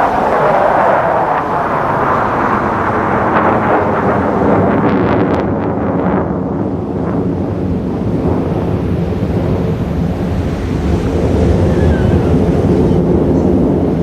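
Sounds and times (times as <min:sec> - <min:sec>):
fighter jets roaring past: 0:00.0 - 0:14.0.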